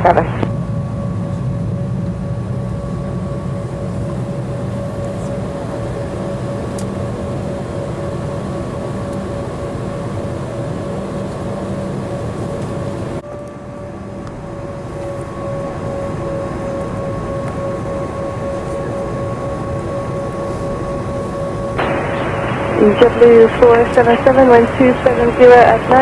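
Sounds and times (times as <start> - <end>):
jet engines humming and whining: 0.0 - 26.0.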